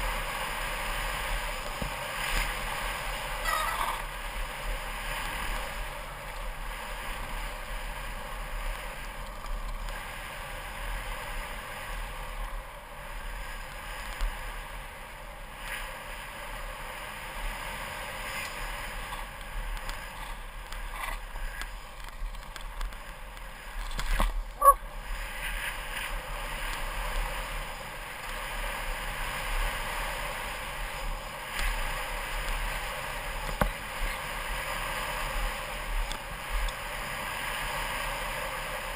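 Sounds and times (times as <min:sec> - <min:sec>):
wind and tyre noise: 0:00.0 - 0:38.9.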